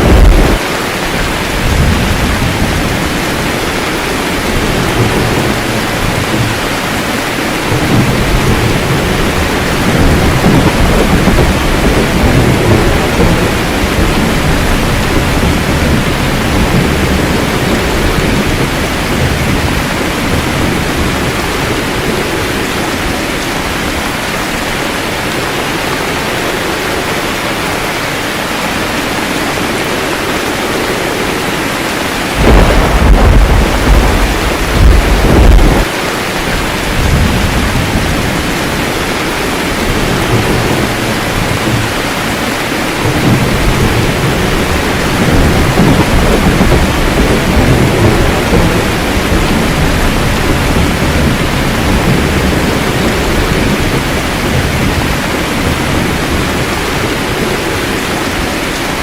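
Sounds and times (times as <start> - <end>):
rolling thunder rumble: 0.0 - 59.0
steady rain hiss: 0.0 - 59.0.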